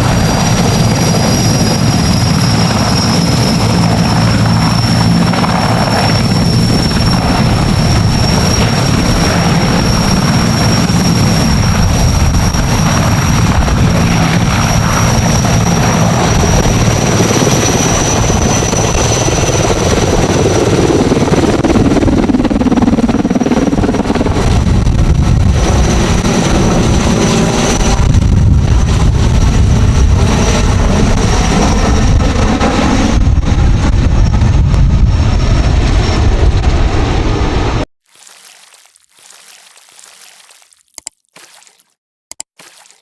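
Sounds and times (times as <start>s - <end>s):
helicopter rotor beating: 0.0s - 37.8s.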